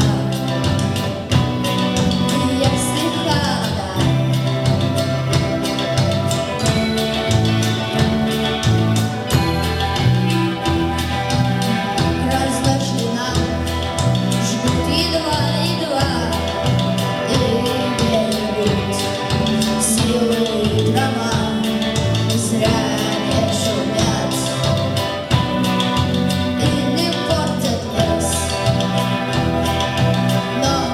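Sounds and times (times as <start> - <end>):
bass line: 0.0 - 30.9
steady drum beat: 0.0 - 30.9.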